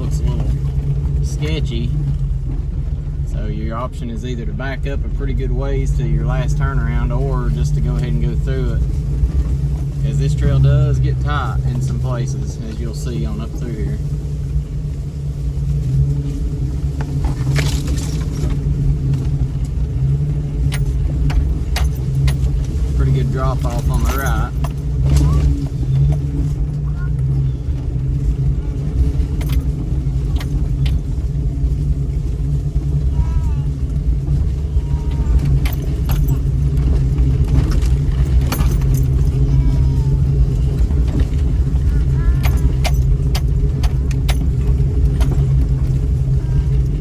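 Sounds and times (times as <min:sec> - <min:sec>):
car engine running at low revs: 0:00.0 - 0:47.0
sharp clicks and rattles: 0:00.0 - 0:47.0.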